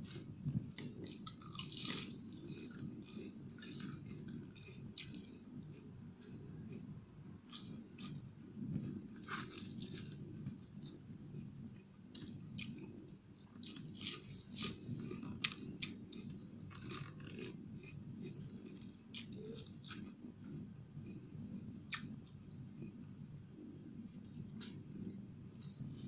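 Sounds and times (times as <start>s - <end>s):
chewing crispy fried fish: 0.0s - 26.0s
steady low hum: 0.0s - 26.0s.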